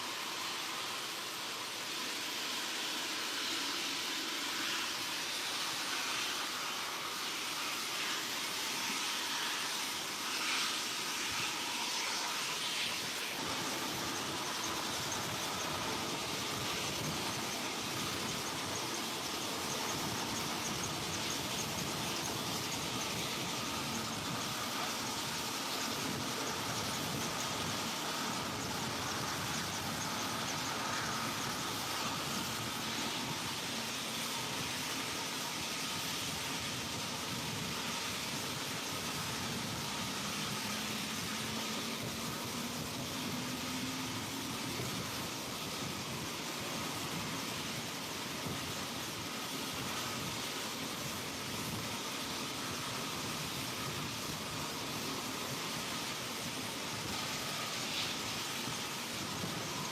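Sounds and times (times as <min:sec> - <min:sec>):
helicopter turbine and rotor: 0:00.0 - 0:59.9.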